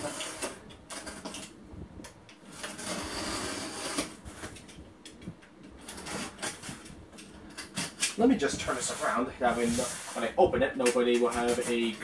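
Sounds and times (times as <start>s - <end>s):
cardboard rustling and scraping: 0.0s - 1.6s, 2.4s - 4.8s, 5.7s - 12.0s.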